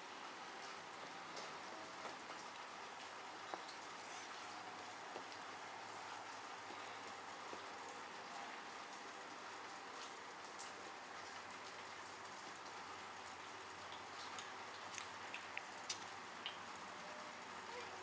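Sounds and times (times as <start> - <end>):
light rain falling: 0.0 - 18.0
raindrop ticks: 0.2 - 17.1.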